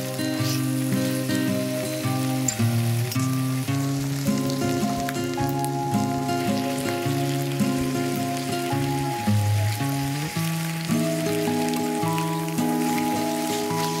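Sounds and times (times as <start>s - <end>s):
food sizzling in a pan: 0.0s - 14.0s
instrumental background music: 0.0s - 14.0s.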